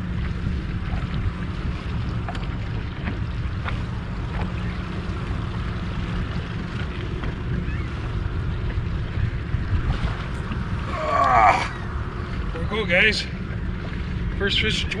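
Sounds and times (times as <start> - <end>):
outboard motor running: 0.0 - 15.0
wind rumble on microphone: 0.0 - 15.0.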